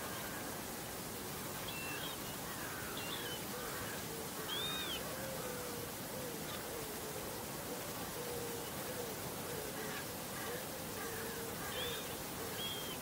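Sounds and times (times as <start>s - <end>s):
steady outdoor hiss: 0.0s - 13.0s
faint low wavering calls: 1.6s - 13.0s.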